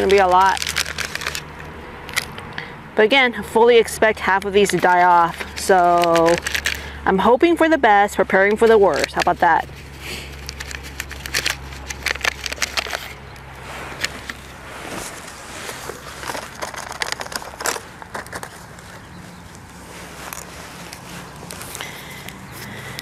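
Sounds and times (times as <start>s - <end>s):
hands scraping in soil: 0.0s - 1.4s, 4.1s - 6.8s, 8.4s - 23.0s
plastic tray crackling: 0.0s - 2.4s, 4.2s - 6.9s, 8.6s - 23.0s.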